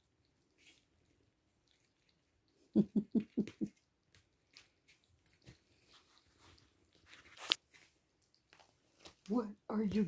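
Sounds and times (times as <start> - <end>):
kitten lapping water: 0.0 - 9.2.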